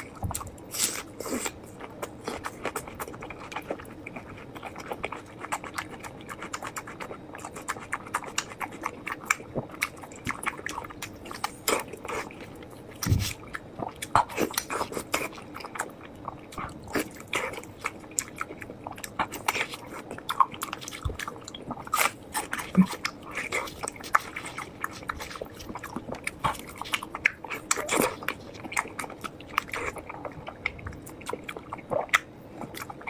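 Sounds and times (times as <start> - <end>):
person chewing with mouth smacks: 0.0 - 33.0.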